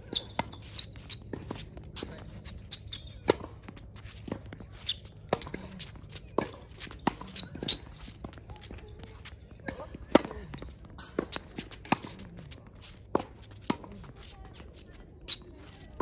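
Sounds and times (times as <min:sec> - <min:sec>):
footsteps on court: 0:00.0 - 0:16.0
shoe squeaks: 0:00.0 - 0:16.0.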